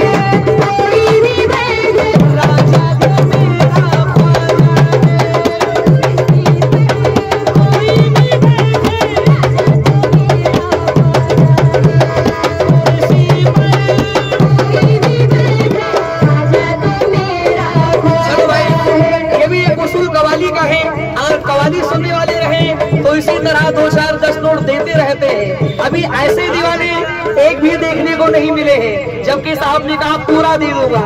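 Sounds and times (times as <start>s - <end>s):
hand drums beating: 0.0s - 28.7s.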